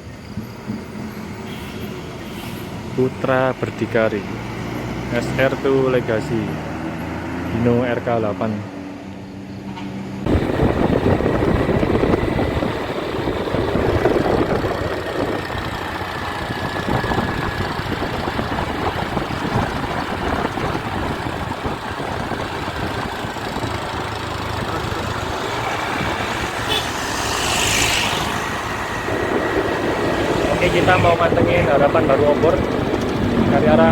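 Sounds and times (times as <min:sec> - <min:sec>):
heavy vehicles passing: 0:00.0 - 0:33.9.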